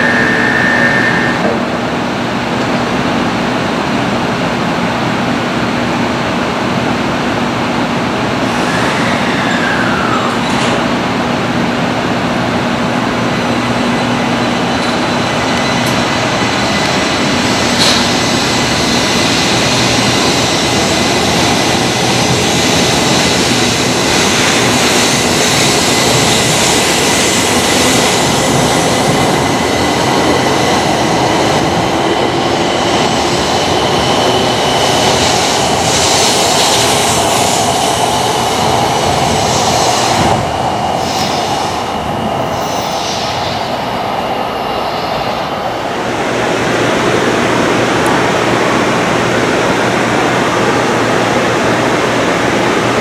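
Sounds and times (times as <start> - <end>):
high-speed train accelerating past: 0.0 - 53.0.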